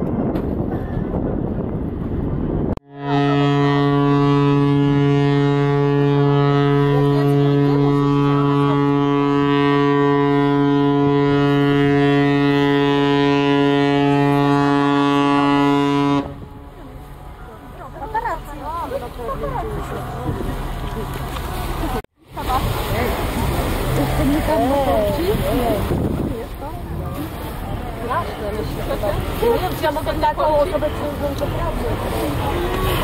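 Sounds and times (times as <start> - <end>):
ship's horn blast: 2.8 - 33.0.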